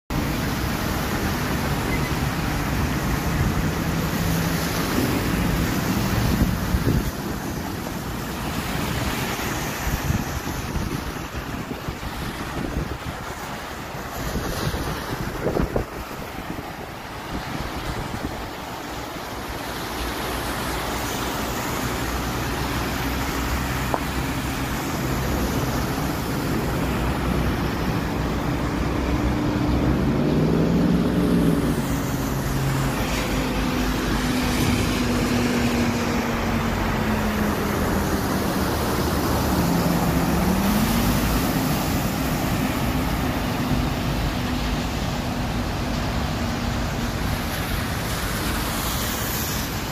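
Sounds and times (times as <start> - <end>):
engine hum: 0.1 - 49.9
road vehicle rushing: 0.1 - 49.9.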